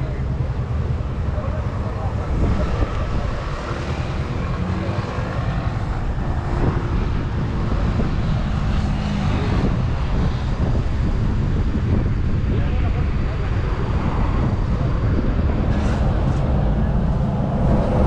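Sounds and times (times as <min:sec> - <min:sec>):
heavy truck engines rumbling: 0:00.0 - 0:18.0.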